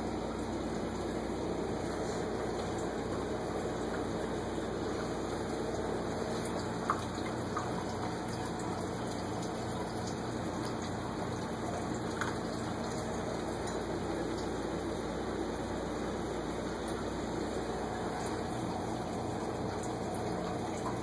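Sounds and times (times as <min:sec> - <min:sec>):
aquarium water rushing: 0:00.0 - 0:21.0
pump hum: 0:00.0 - 0:21.0.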